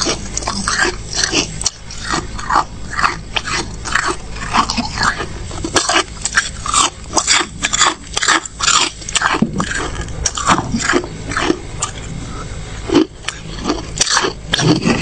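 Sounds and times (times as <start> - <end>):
person chewing crunchy frost: 0.0 - 15.0.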